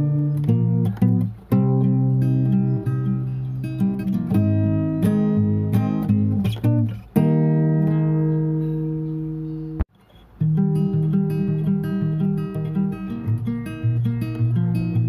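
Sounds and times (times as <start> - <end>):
acoustic guitar picking and strumming: 0.0 - 15.0.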